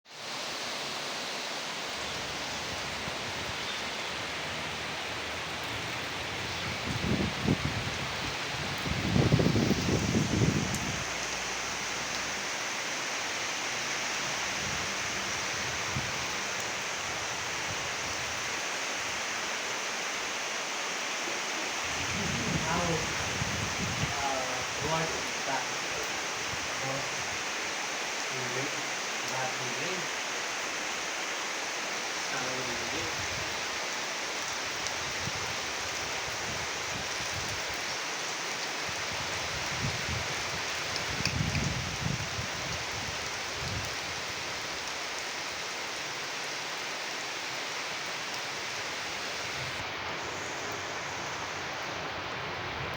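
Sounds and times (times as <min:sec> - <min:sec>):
steady rainfall: 0:00.0 - 0:52.9.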